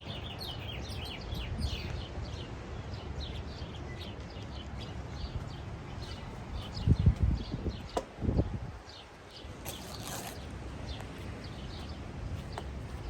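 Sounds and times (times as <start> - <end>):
small birds chirping: 0.0 - 13.0
wind rumble on microphone: 0.0 - 13.0.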